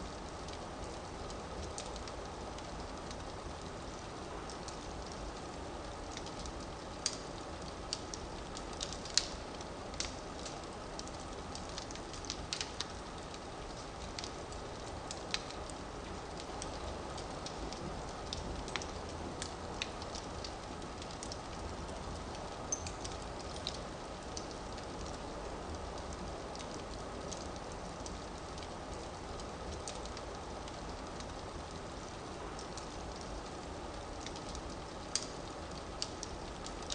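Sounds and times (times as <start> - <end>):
fire burning: 0.0 - 36.9
firewood crackling and popping: 0.0 - 36.9.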